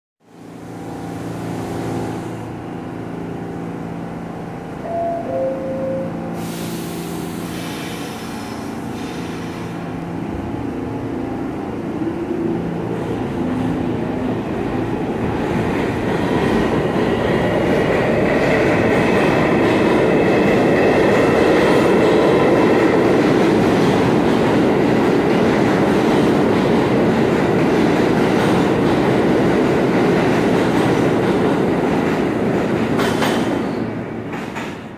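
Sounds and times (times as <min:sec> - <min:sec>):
subway train pulling out: 0:00.2 - 0:34.9.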